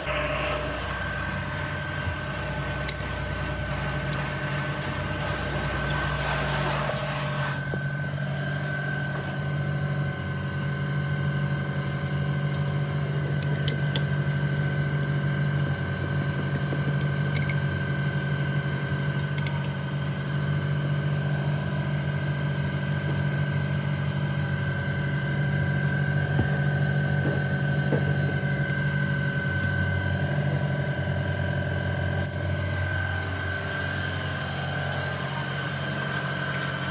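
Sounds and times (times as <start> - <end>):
machine hum with high whine: 0.0 - 36.9.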